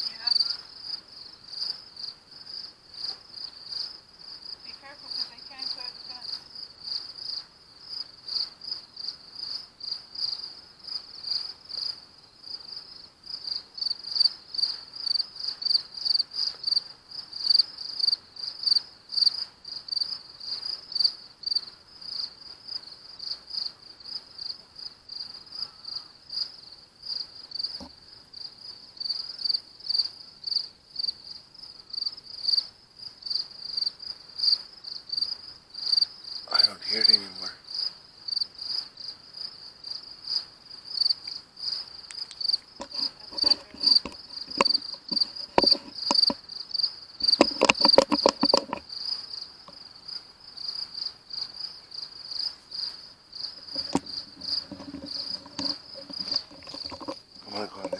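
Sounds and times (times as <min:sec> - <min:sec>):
night insects chirping: 0:00.0 - 0:57.9.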